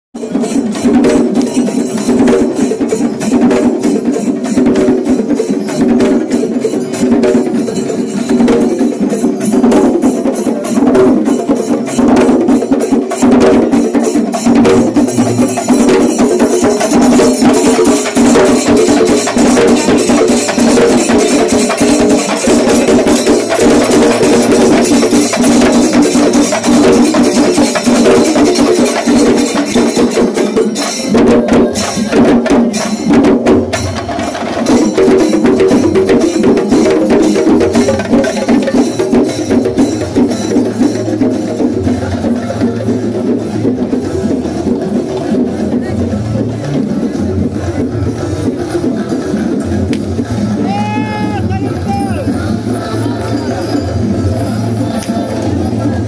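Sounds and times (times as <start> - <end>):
percussion ensemble drumming: 0.2 - 56.0.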